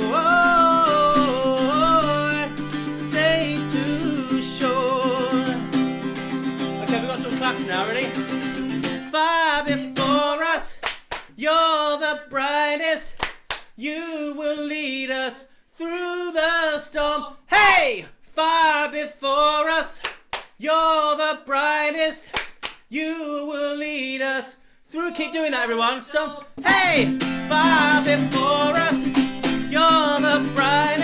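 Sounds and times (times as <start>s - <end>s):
man singing unaccompanied: 0.0s - 5.9s, 9.0s - 13.2s, 13.8s - 20.0s, 20.6s - 22.3s, 22.9s - 31.0s.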